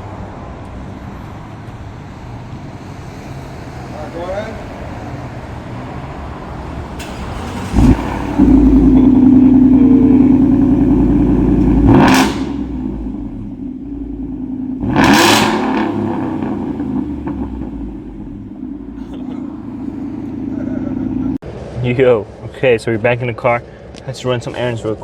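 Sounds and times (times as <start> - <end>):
truck engine idling and revving: 0.0 - 21.8.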